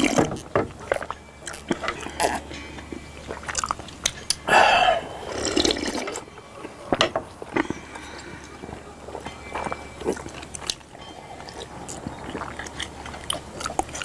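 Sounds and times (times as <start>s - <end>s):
people slurping a drink: 0.0s - 2.6s, 3.2s - 14.0s.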